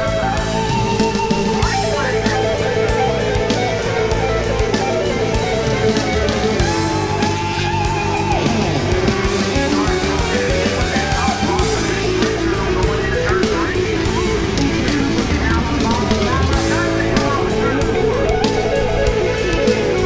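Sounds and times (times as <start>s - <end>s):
heavy rock music: 0.0s - 20.0s.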